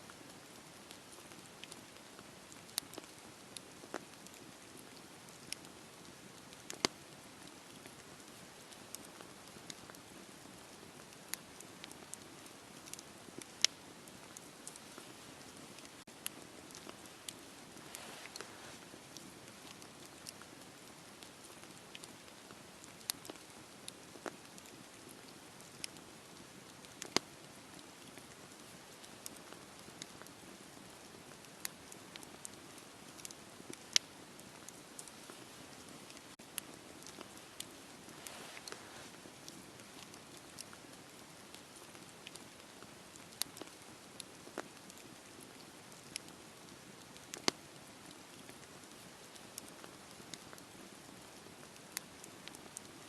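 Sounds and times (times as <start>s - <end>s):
fireplace fire crackling: 0.0s - 53.0s.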